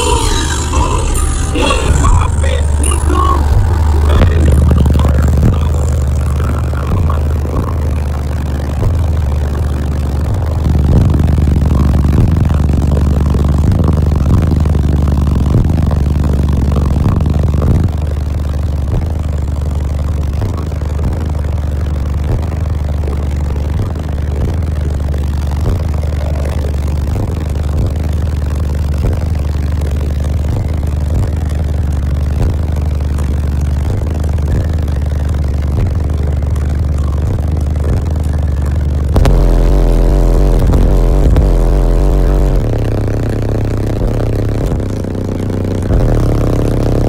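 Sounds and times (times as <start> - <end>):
subwoofers playing deep bass: 0.0 - 47.0.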